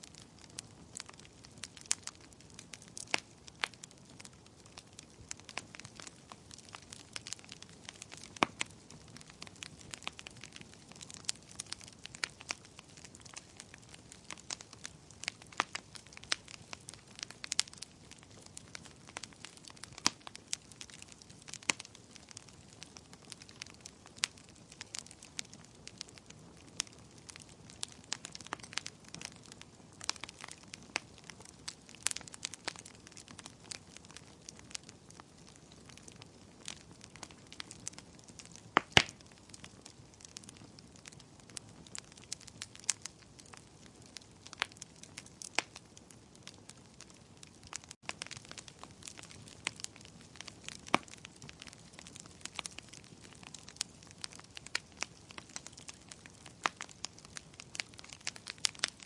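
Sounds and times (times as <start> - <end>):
bonfire crackling and popping: 0.0 - 59.0.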